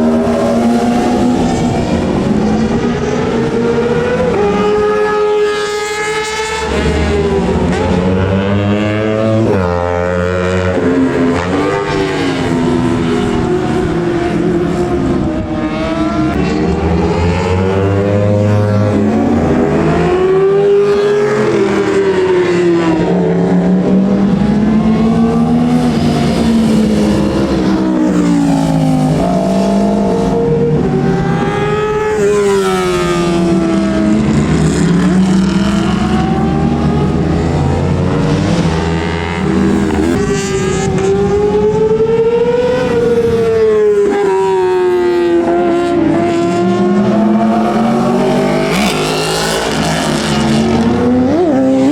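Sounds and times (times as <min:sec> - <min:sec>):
racing motorcycles revving: 0:00.0 - 0:51.9.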